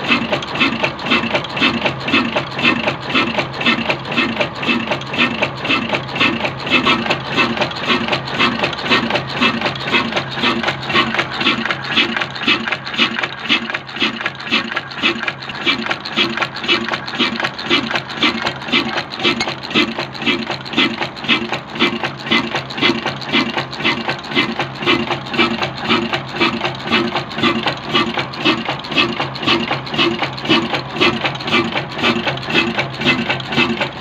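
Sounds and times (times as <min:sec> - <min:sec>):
diesel engine running steadily: 0:00.0 - 0:34.0.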